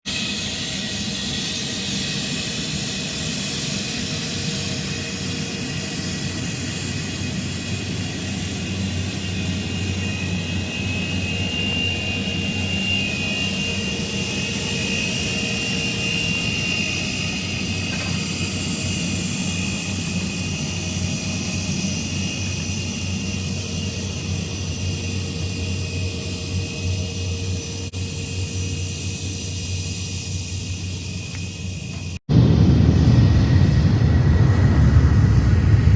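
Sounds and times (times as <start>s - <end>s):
jet engines rumbling and whining: 0.0s - 35.9s.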